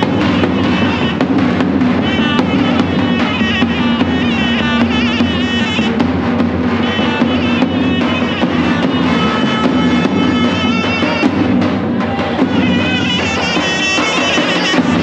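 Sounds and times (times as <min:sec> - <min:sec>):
steady drumming: 0:00.0 - 0:15.0
wind instrument melody: 0:00.0 - 0:15.0.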